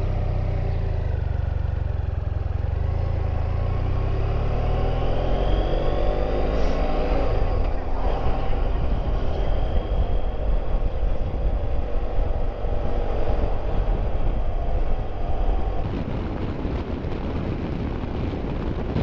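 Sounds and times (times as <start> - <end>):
motorcycle engine running: 0.0 - 6.0, 6.6 - 19.0
wind rumble on microphone: 0.0 - 19.0.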